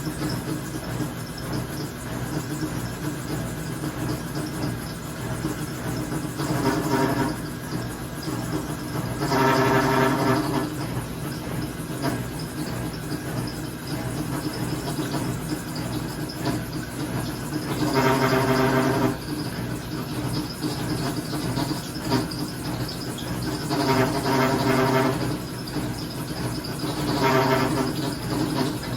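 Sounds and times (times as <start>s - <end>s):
washing machine groaning: 0.0s - 28.9s
washing machine humming: 0.0s - 28.9s.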